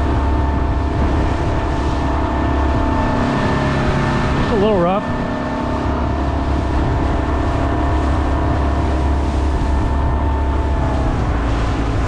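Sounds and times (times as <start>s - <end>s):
choppy water: 0.0s - 12.0s
outboard motor humming: 0.0s - 12.0s
wind rushing: 0.0s - 12.0s.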